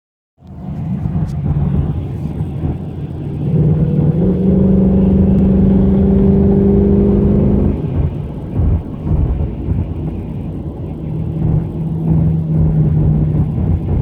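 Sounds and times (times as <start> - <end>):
car engine and road rumble: 0.4 - 14.0.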